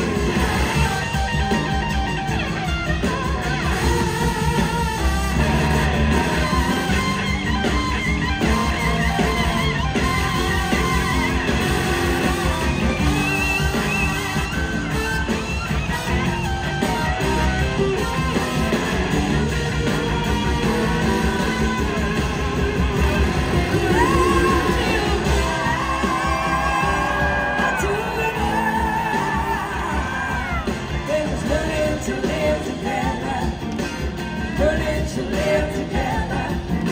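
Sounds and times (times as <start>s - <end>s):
horn section: 0.0s - 2.5s, 3.1s - 33.3s
live rock band playing: 0.0s - 36.9s.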